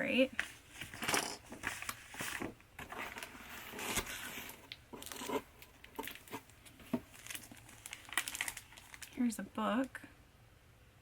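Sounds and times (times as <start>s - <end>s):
packaging rustling and tearing: 0.4s - 9.3s.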